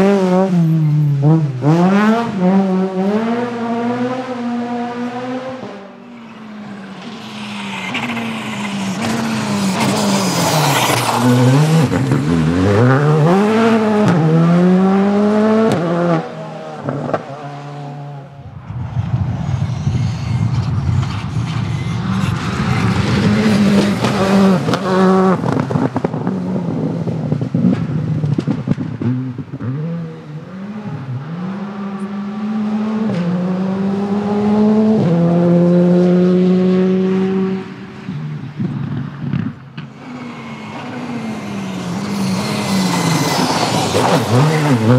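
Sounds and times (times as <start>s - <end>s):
rally car engine revving: 0.0s - 38.0s, 38.6s - 44.9s.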